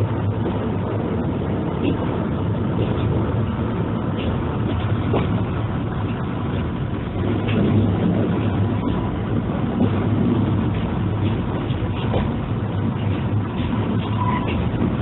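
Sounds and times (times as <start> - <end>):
railcar engine drone: 0.0 - 15.0
wheels rumbling on rails: 0.0 - 15.0.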